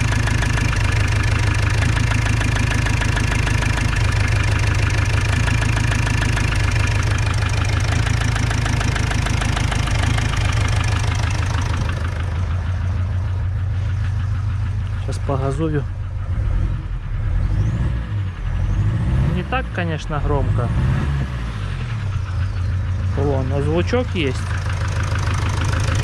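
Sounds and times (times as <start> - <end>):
diesel engine idling with knock: 0.0 - 26.0.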